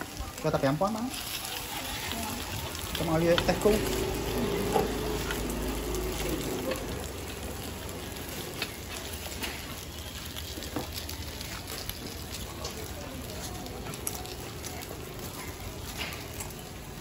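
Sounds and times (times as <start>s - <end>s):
oil sizzling in a pan: 0.0s - 17.0s.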